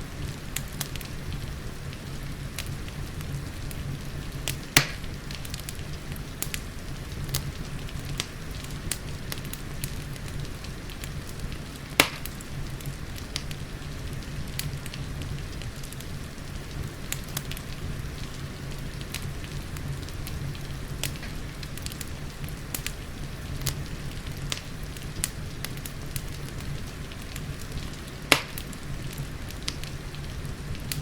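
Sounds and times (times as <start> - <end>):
rain hissing: 0.0 - 31.0
wood fire crackling: 0.0 - 31.0.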